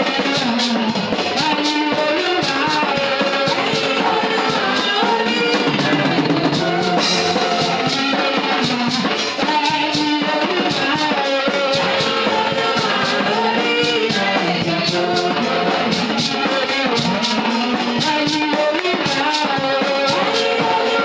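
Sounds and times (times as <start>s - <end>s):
drum kit: 0.0s - 21.0s
guitar: 0.0s - 21.0s
voices singing: 0.0s - 21.0s.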